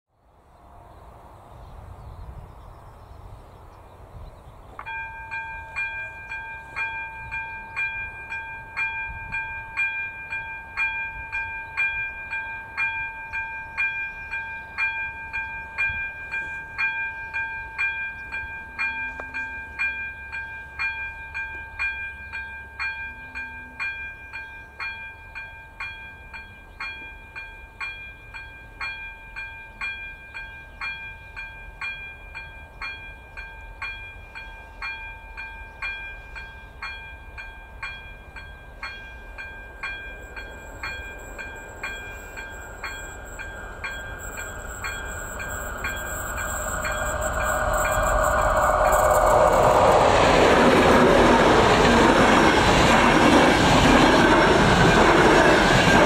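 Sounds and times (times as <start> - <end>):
level crossing warning bell ringing: 4.9 - 52.9.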